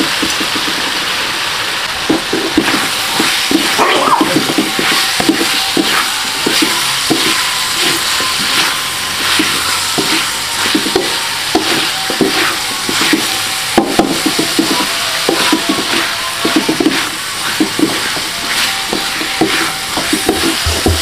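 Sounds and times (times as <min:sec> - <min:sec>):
food frying sizzle: 0:00.0 - 0:21.0
spatula scraping a wok: 0:02.0 - 0:21.0.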